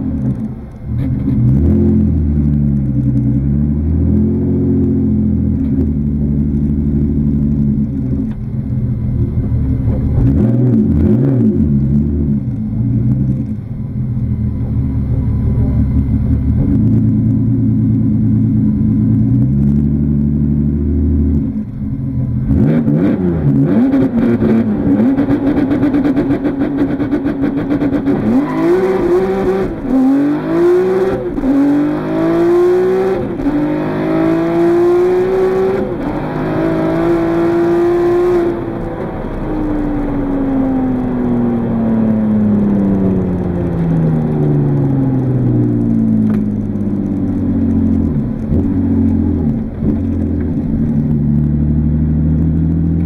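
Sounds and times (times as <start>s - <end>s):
car engine revving and accelerating: 0.0s - 8.5s, 9.1s - 13.6s, 14.5s - 53.0s.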